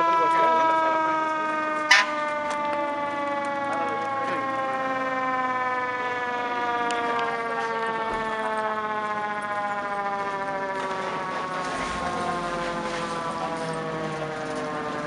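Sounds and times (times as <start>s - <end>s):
fire truck siren: 0.0s - 15.0s.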